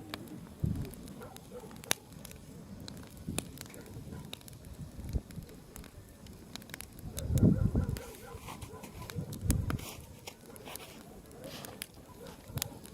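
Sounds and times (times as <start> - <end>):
bonfire crackling and popping: 0.0 - 12.9
low rumble of burning: 0.0 - 12.9.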